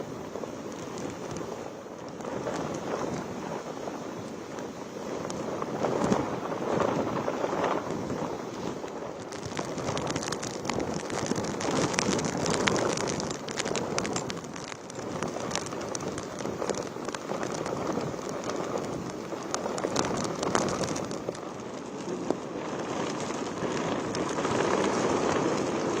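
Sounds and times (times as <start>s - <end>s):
heavy rain in gusty wind: 0.0s - 26.0s
sharp crackling raindrops: 0.0s - 26.0s.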